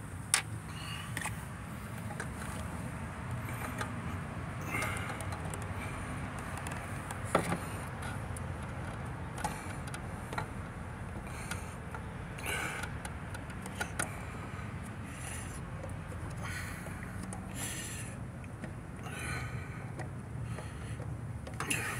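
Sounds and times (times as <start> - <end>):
light clicks and knocks: 3.3 - 17.6, 18.3 - 21.9.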